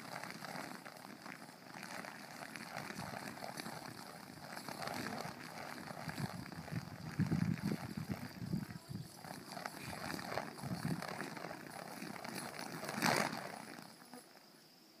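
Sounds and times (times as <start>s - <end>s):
chain whooshing through air: 0.0s - 14.2s.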